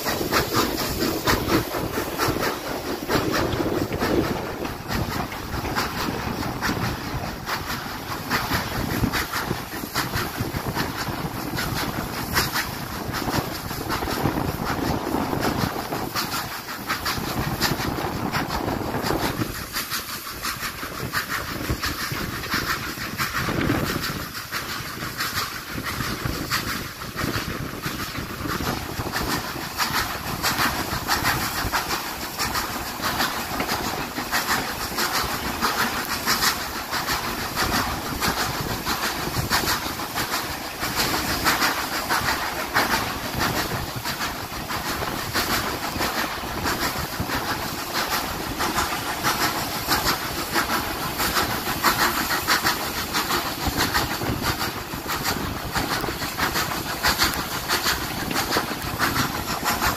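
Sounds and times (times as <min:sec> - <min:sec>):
train running on rails: 0:00.0 - 0:59.9.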